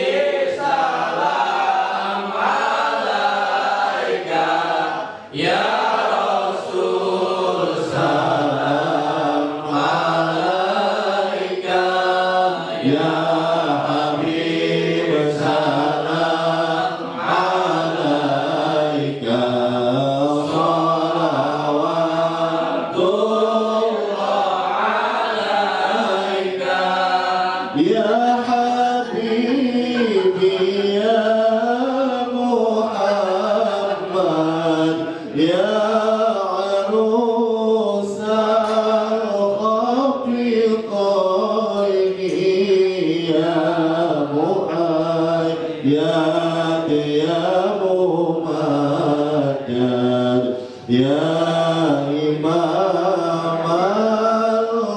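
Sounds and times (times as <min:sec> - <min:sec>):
man chanting into a microphone: 0:00.0 - 0:54.9.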